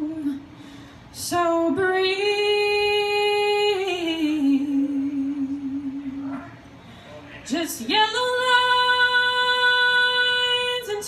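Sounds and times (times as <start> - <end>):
woman singing unaccompanied: 0.0 - 0.5, 1.2 - 6.3, 7.5 - 11.0.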